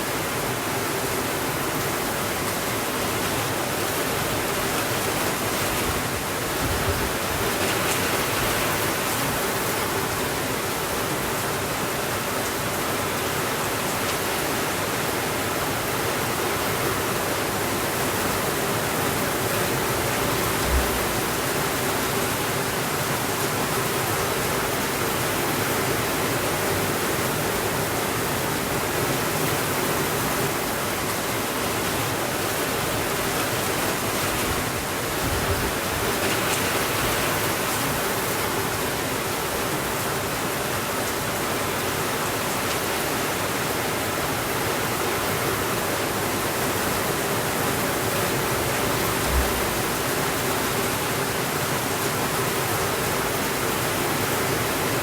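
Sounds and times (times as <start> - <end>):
heavy rain on window: 0.1 - 55.0.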